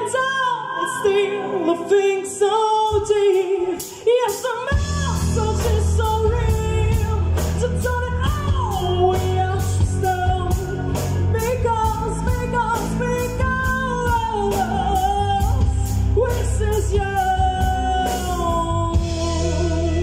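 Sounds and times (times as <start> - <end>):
rock band playing: 0.0 - 20.0
woman singing: 0.0 - 20.0.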